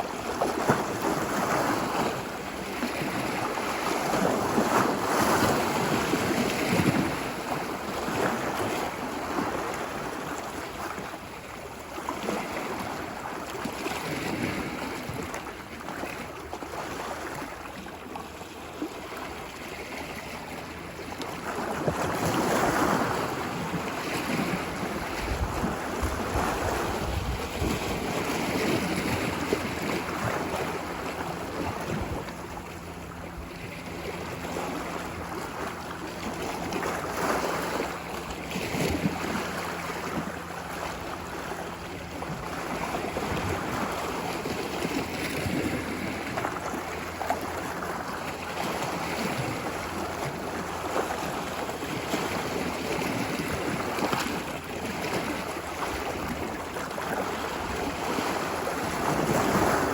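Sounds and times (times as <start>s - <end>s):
ocean waves washing onto beach: 0.0s - 59.9s.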